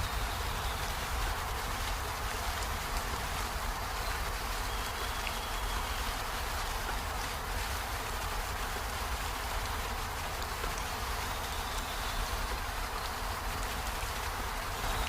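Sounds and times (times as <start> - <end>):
rain falling on leaves: 0.0 - 15.0.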